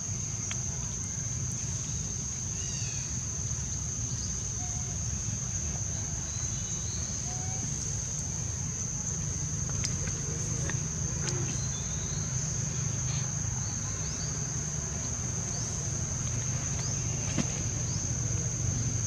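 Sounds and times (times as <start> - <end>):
insects buzzing drone: 0.0 - 19.0.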